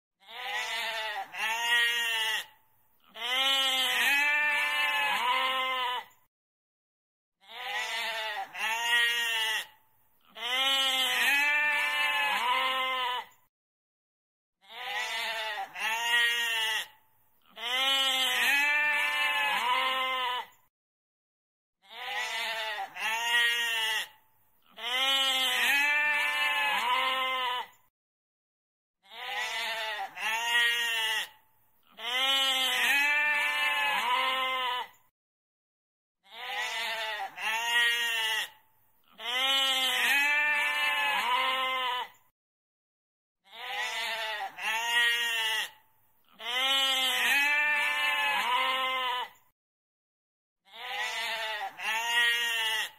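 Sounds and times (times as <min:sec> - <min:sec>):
goat bleating: 0:00.2 - 0:06.2, 0:07.4 - 0:13.4, 0:14.6 - 0:20.6, 0:21.8 - 0:27.8, 0:29.0 - 0:35.0, 0:36.2 - 0:42.2, 0:43.5 - 0:49.4, 0:50.7 - 0:52.9.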